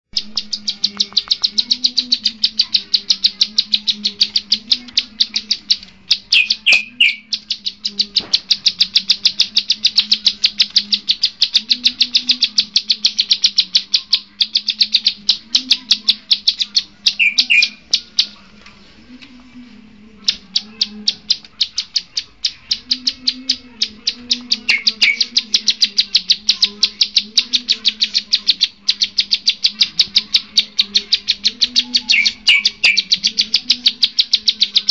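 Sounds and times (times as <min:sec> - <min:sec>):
songbird high chirps: 0:00.1 - 0:34.9.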